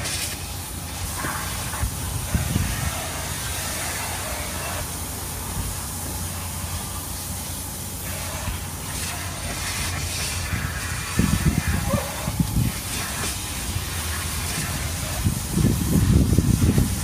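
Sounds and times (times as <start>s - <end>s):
vacuum hose hissing: 0.0s - 17.0s.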